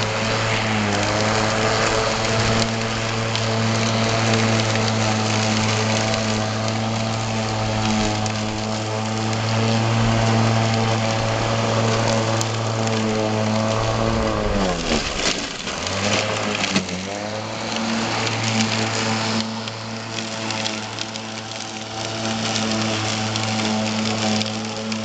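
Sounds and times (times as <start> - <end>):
electric lawn mower humming: 0.0 - 25.0.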